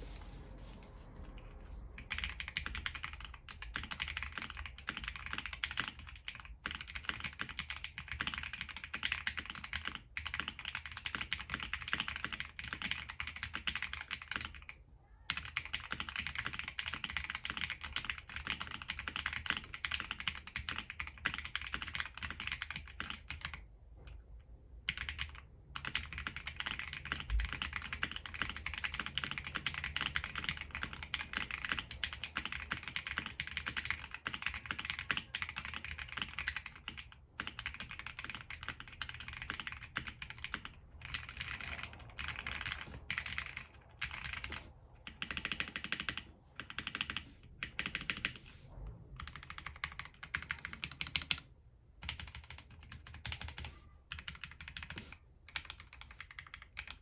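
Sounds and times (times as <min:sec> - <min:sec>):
fast mechanical keyboard typing: 0:02.0 - 0:24.2, 0:24.8 - 0:48.5, 0:49.2 - 0:57.0.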